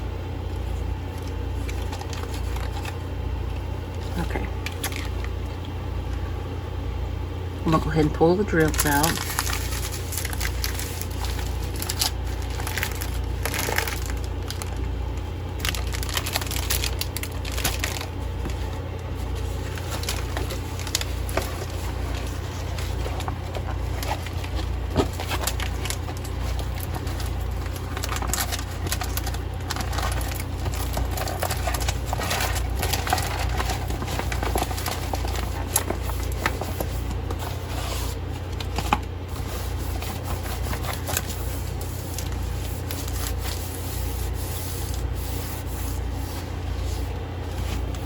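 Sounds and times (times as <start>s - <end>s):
steady low hum: 0.0s - 48.0s
plastic packets crinkling: 1.1s - 3.1s, 4.2s - 5.6s, 8.5s - 46.2s.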